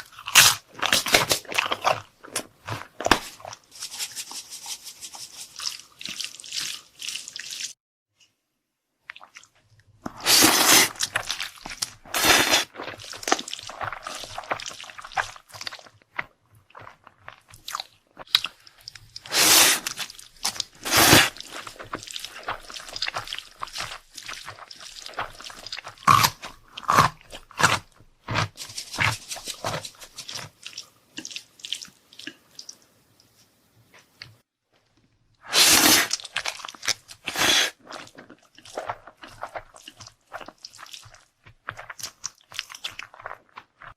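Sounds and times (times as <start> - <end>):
chewing and crunching: 0.0 - 7.4, 9.1 - 32.8, 35.9 - 43.9.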